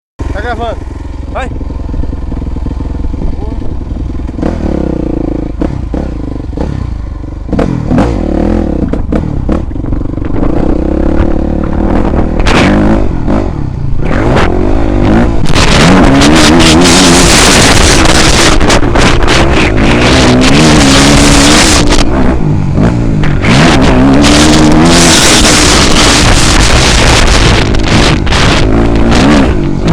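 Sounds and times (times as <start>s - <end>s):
motocross bike engine revving: 0.2s - 29.9s.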